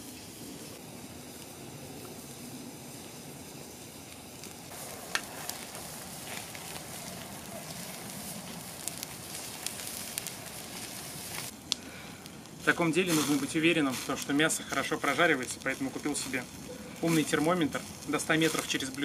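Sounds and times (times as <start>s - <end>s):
fire popping and crackling: 0.0s - 19.0s
meat sizzling over campfire: 0.0s - 19.0s.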